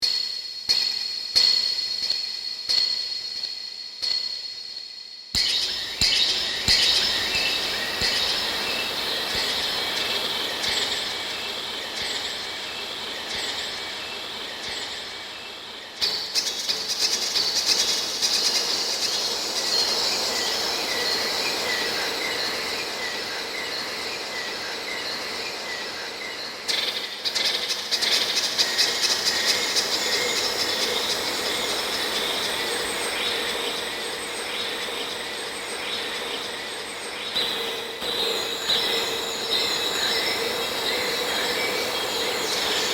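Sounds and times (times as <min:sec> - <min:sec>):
time-stretched birdsong with echo: 0:00.0 - 0:42.9.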